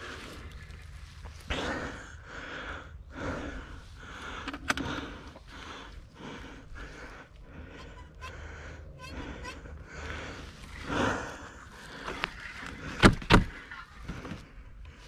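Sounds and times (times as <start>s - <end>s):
man breathing hard: 1.3s - 15.0s.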